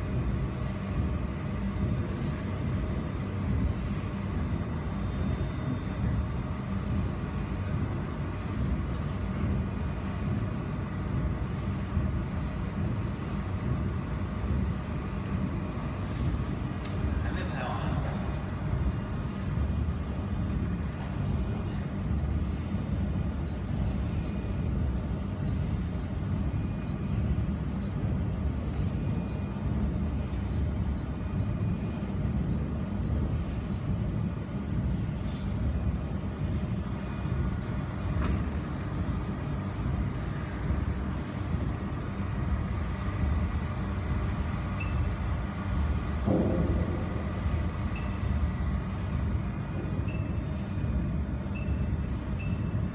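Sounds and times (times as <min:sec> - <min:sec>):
machinery humming: 0:00.0 - 0:52.9.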